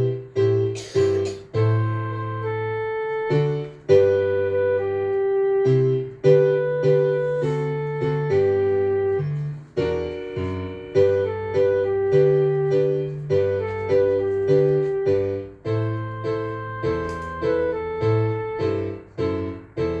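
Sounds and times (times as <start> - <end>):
piano foxtrot accompaniment: 0.0 - 20.0.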